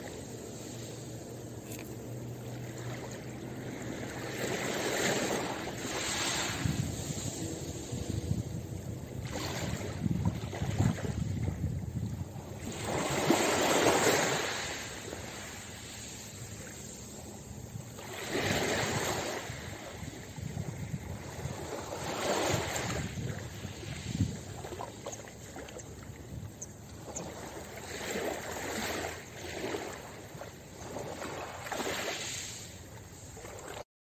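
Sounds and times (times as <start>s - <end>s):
waves washing onto pebbles: 0.0s - 11.3s, 12.6s - 17.2s, 18.0s - 20.6s, 21.2s - 25.0s, 27.6s - 33.8s
surf hiss: 0.0s - 33.8s.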